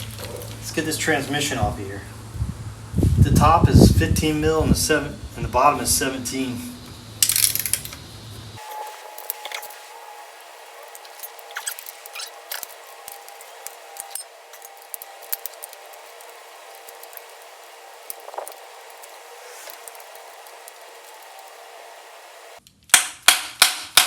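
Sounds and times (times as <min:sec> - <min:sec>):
faint steady hum: 0:00.0 - 0:22.6.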